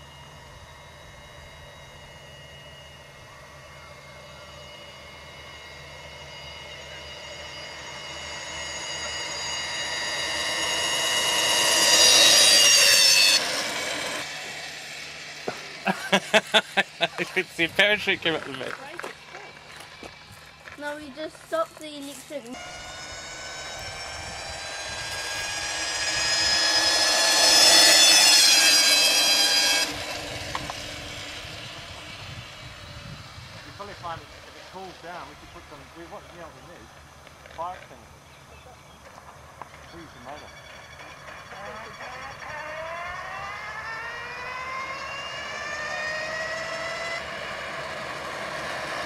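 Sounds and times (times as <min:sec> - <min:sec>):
high-pitched electric motor whine: 0:00.0 - 0:49.0.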